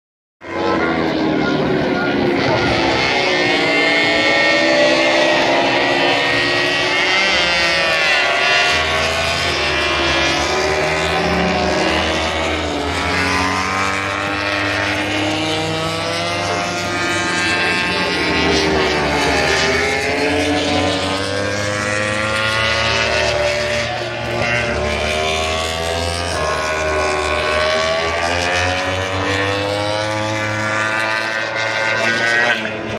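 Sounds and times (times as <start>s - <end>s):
low engine drone: 0.4s - 32.9s
motorcycle engines revving: 0.4s - 32.9s.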